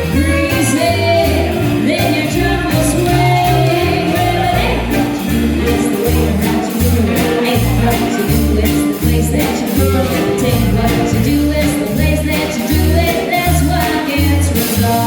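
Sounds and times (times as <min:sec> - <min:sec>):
swing jazz band playing: 0:00.0 - 0:15.0.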